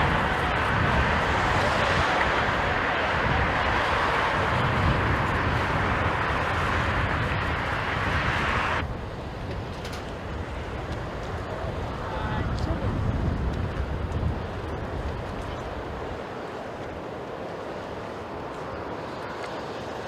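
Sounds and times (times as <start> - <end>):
jet engine noise: 0.0 - 20.0
wind on microphone: 0.0 - 20.0.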